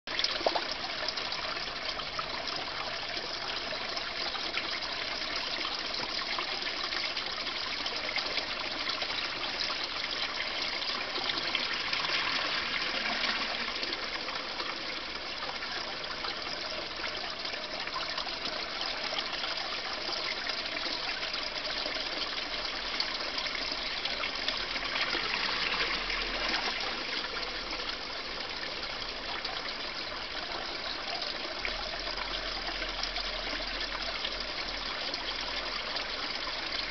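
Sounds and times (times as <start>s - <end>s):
pond water trickling and splashing: 0.1s - 36.9s.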